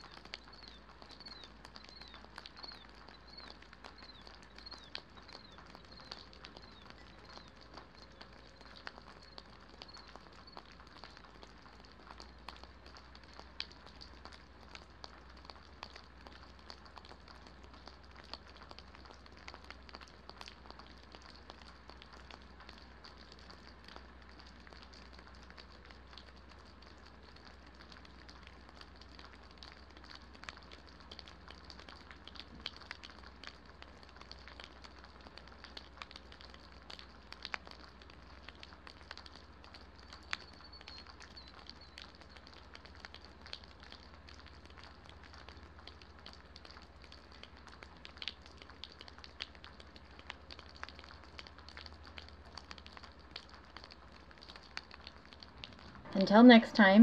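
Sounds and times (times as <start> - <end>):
faint steady hiss: 0.0 - 57.0
raindrops ticking: 0.0 - 57.0.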